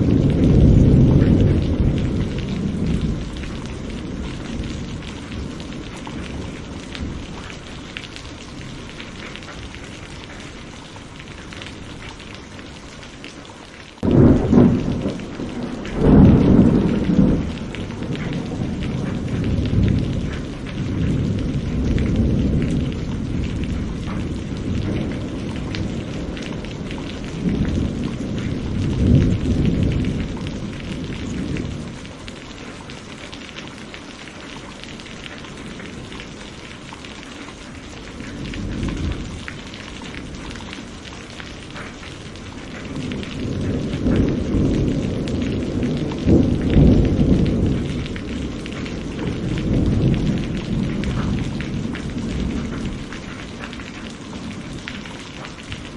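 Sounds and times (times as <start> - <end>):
rolling thunder: 0.0 - 12.3, 14.0 - 33.0, 37.8 - 55.9
steady rain: 0.0 - 55.9.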